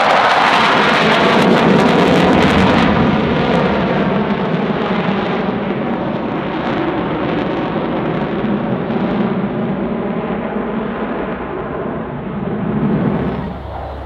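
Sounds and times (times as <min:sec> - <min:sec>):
jet engine roaring: 0:00.0 - 0:14.0.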